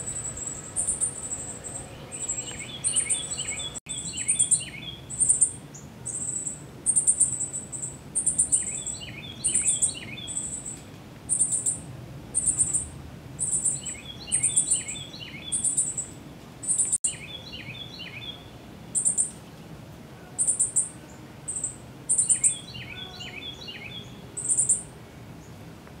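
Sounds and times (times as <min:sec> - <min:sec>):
bird song: 0:00.0 - 0:19.4, 0:20.2 - 0:25.6.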